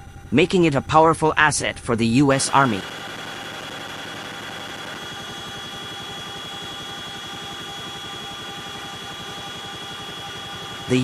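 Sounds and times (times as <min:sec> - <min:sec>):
helicopter rotor beat: 0:01.9 - 0:11.0
high drive system whine: 0:01.9 - 0:11.0.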